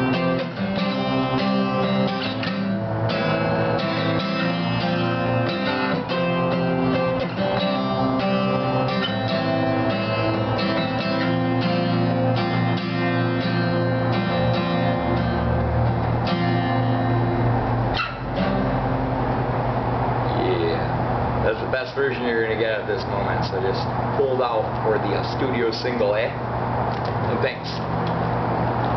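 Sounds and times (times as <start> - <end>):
acoustic guitar strumming: 0.0 - 28.8.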